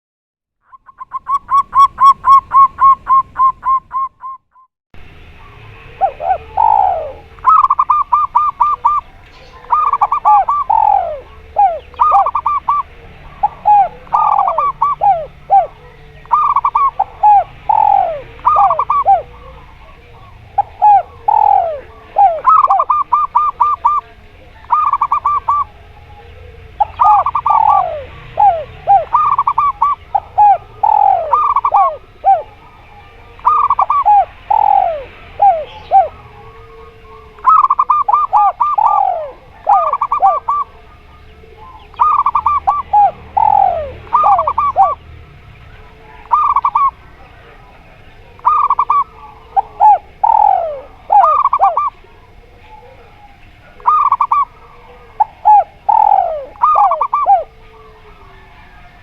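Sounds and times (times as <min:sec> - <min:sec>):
doves cooing: 0:00.7 - 0:04.4, 0:05.0 - 0:59.0.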